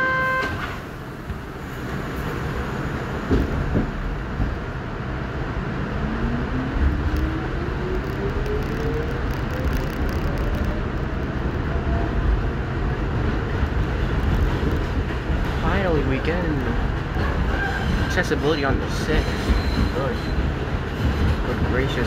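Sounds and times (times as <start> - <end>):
subway motors whining: 0.0 - 21.4
train rumbling on track: 0.0 - 22.0.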